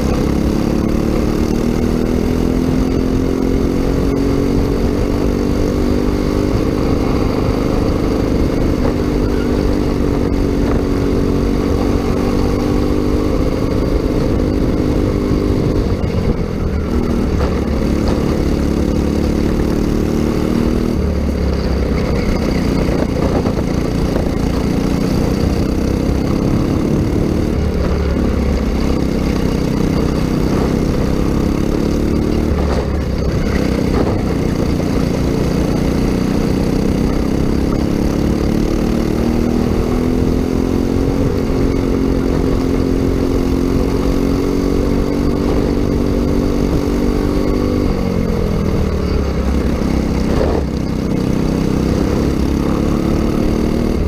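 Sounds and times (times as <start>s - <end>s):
kart engine at high revs: 0.0s - 54.0s.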